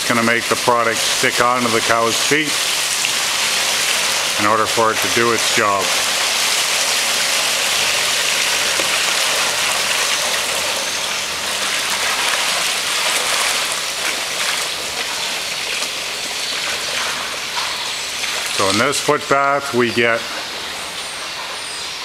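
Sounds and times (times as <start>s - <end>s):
thick liquid pouring and splashing: 0.0s - 21.7s.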